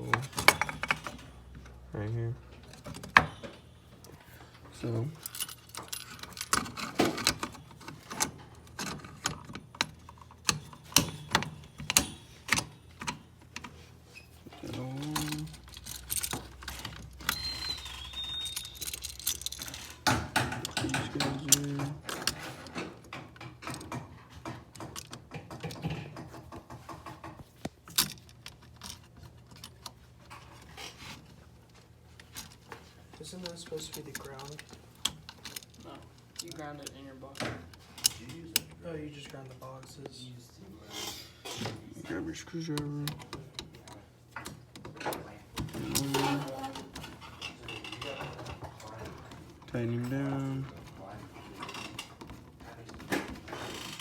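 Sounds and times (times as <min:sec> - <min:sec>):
small hard parts clicking: 0:04.7 - 0:13.8, 0:14.4 - 0:40.1, 0:42.6 - 0:54.0.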